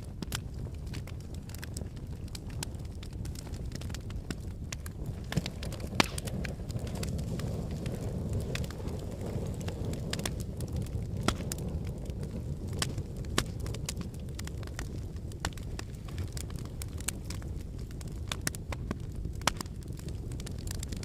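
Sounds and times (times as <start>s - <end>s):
fire crackling and popping: 0.0s - 21.0s
fireplace flames rumbling: 0.0s - 21.0s.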